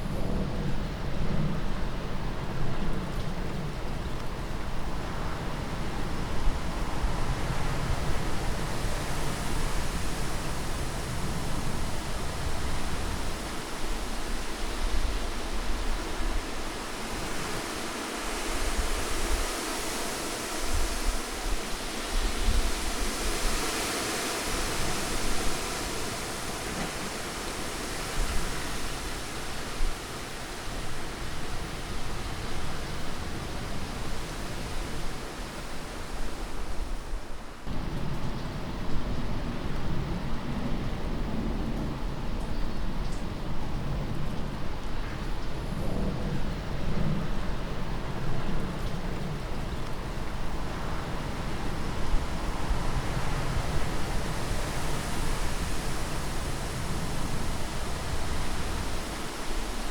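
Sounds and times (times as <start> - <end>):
rushing wind: 0.0 - 59.9.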